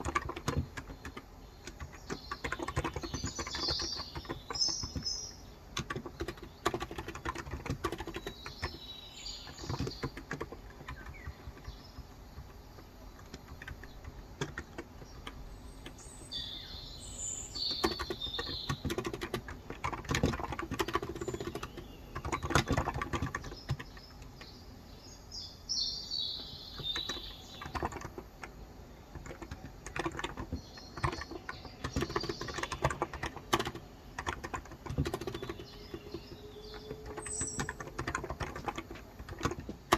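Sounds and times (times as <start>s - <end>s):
keyboard typing: 0.0s - 16.2s, 17.5s - 24.6s, 26.7s - 39.9s
birds chirping: 0.0s - 39.9s.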